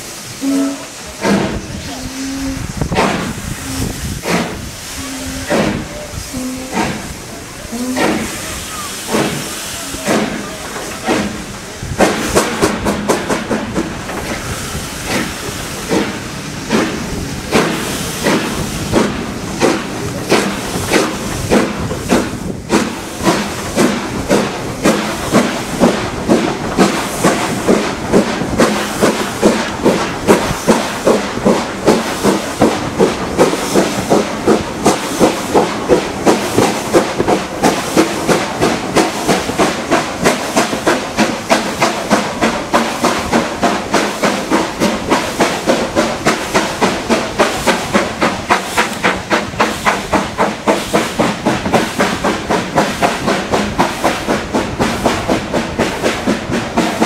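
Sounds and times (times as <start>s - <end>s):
steam locomotive chuffing: 0.0s - 57.0s
train wheels rumbling on rails: 0.0s - 57.0s.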